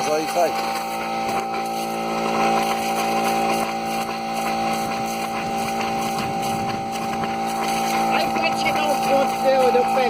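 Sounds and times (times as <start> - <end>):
air compressor humming: 0.0 - 10.0.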